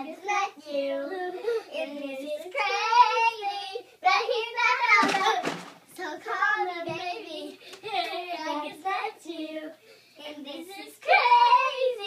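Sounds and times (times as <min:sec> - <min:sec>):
girls singing unaccompanied: 0:00.0 - 0:12.0.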